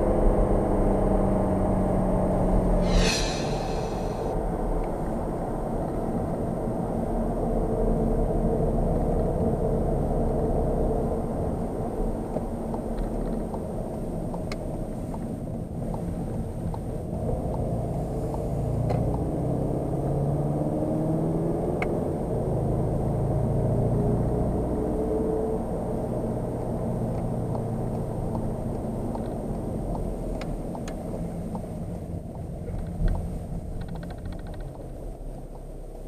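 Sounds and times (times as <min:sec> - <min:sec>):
diesel car engine from inside: 0:06.0 - 0:36.0.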